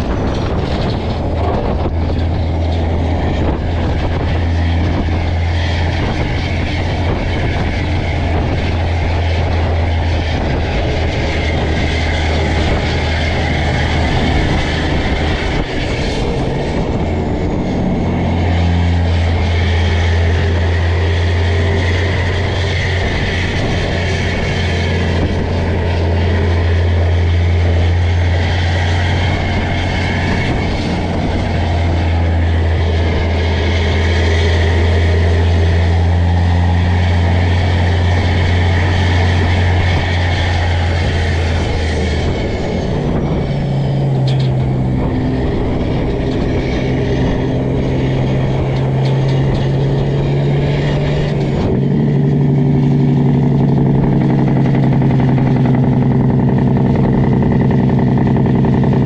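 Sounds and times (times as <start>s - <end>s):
diesel truck engine under load: 0.0s - 59.0s.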